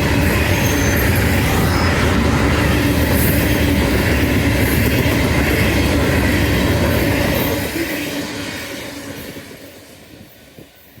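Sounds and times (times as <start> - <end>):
train cars rumbling on rails: 0.0 - 11.0.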